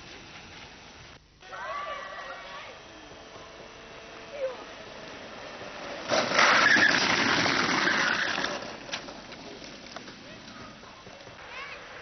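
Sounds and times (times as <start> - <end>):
kart rolling on asphalt: 0.0 - 12.0.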